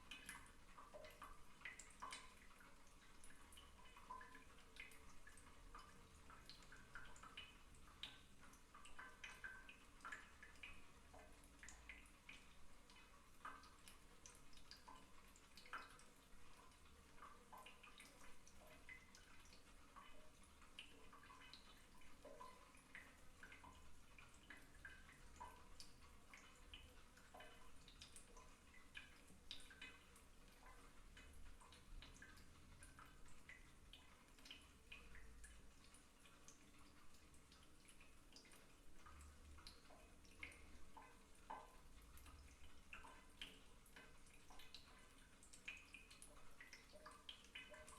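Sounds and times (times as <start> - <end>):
water drips plinking: 0.0 - 47.9.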